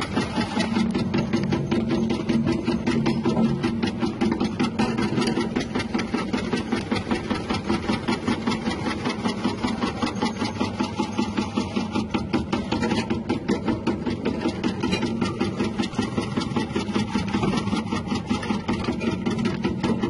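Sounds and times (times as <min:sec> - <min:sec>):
rhythmic machine clatter: 0:00.0 - 0:20.0.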